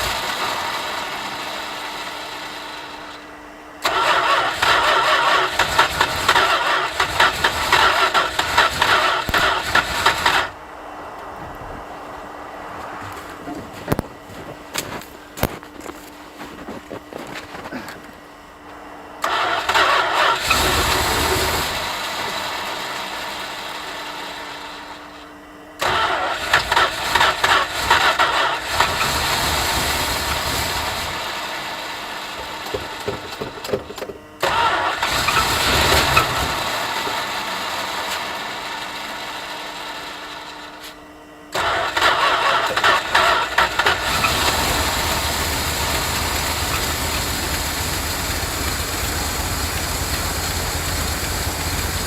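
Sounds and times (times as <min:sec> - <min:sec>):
car engine starting and idling: 0:00.0 - 0:52.0.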